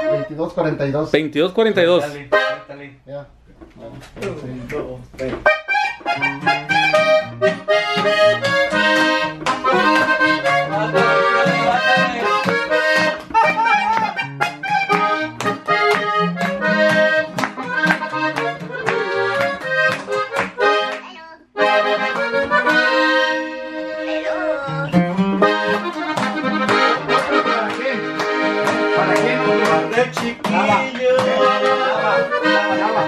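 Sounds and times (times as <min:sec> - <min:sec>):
acoustic guitar: 0:00.0 - 0:00.5, 0:05.2 - 0:33.0
button accordion melody: 0:00.0 - 0:00.5, 0:01.9 - 0:02.8, 0:05.4 - 0:33.0.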